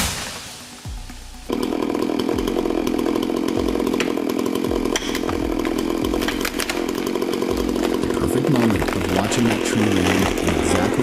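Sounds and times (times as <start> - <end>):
chainsaw engine at high revs: 1.5 - 11.0.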